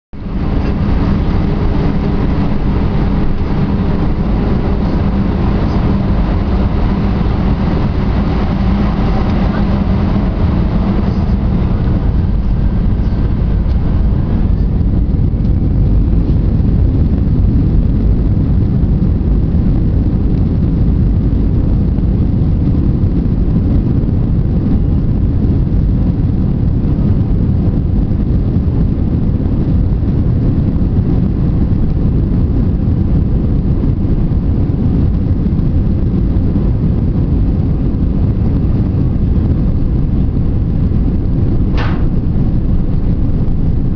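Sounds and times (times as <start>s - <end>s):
jet engines at take-off power: 0.2s - 43.9s.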